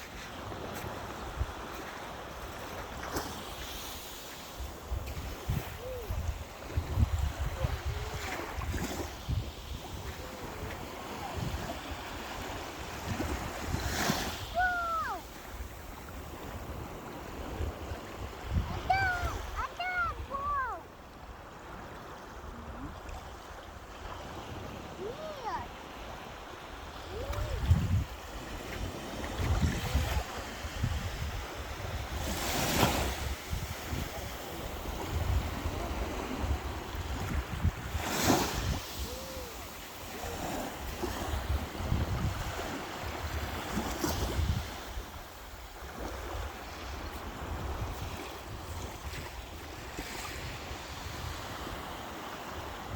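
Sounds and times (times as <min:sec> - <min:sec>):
sea waves washing on shore: 0:00.0 - 0:52.9
wind buffeting microphone: 0:04.5 - 0:52.9.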